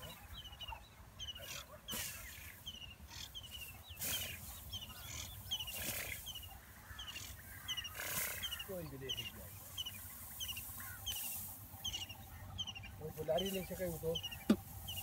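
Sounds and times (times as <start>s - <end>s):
quail calling: 0.0s - 15.0s.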